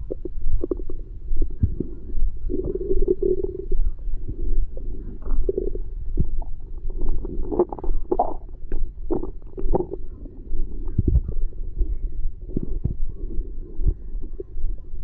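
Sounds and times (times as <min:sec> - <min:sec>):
stomach growling and gurgling: 0:00.0 - 0:15.0.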